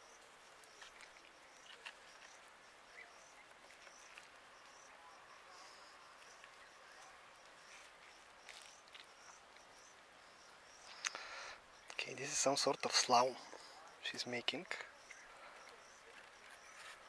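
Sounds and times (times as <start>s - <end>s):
faint insect chirps: 0.0s - 17.0s.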